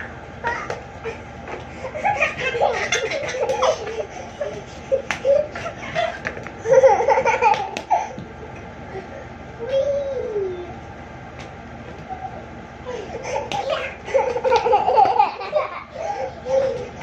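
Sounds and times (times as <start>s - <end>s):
young children laughing: 0.0s - 10.8s, 12.0s - 17.0s.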